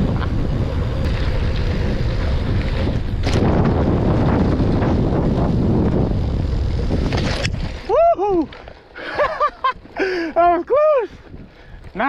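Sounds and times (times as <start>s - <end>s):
wind buffeting microphone: 0.0s - 8.6s, 9.2s - 12.0s
bike tyres rolling on dirt: 0.0s - 12.0s.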